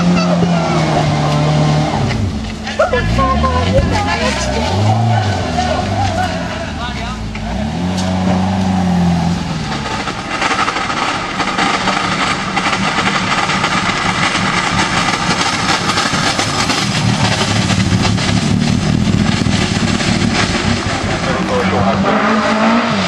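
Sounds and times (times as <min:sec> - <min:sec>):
rally car engine running hard: 0:00.0 - 0:23.0.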